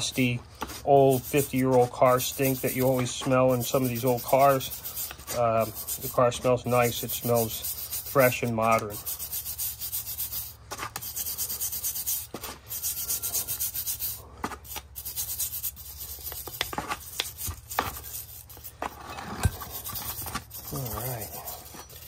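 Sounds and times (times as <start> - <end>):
wire brush scrubbing metal: 0.0 - 22.0.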